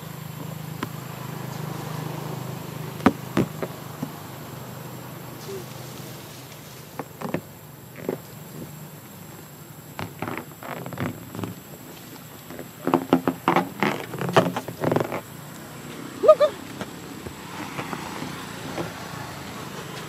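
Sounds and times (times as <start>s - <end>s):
insect buzzing: 0.0s - 20.0s.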